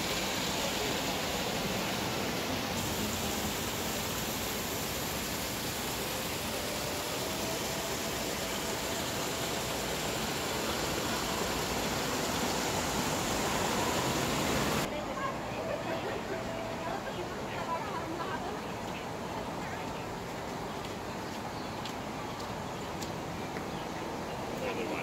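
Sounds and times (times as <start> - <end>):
falling rain hiss: 0.0 - 25.0.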